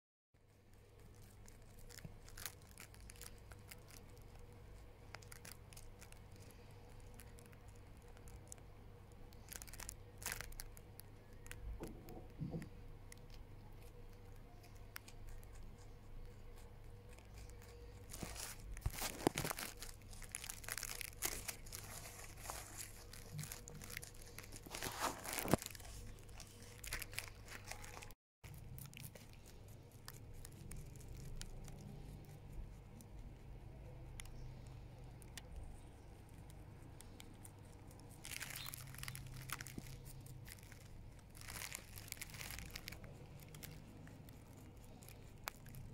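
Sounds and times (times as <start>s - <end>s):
rabbit crunching greens: 0.4s - 45.9s.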